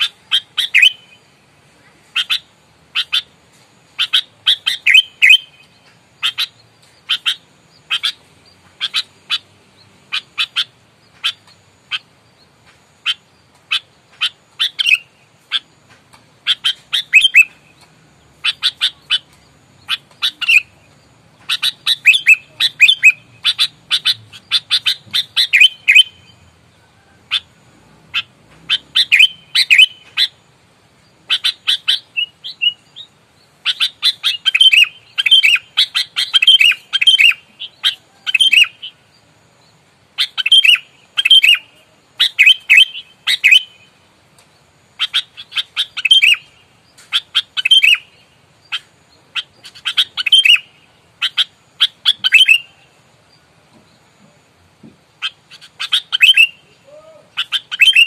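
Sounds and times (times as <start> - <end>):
bulbul chattering song: 0.0 - 58.0.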